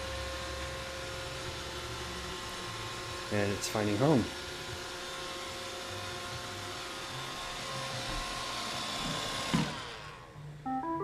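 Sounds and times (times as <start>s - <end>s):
robot vacuum motors whirring: 0.2s - 10.3s.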